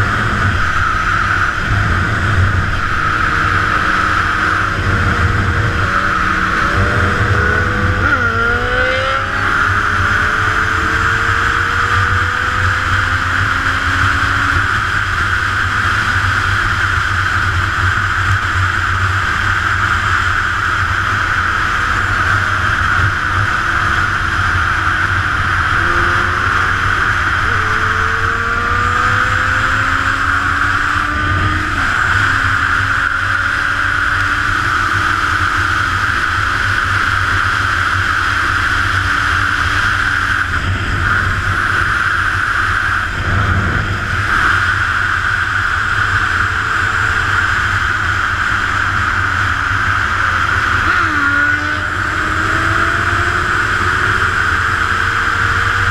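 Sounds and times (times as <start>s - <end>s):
motorcycle engine shifting gears: 0.0s - 55.9s
wind rushing over camera: 0.0s - 55.9s.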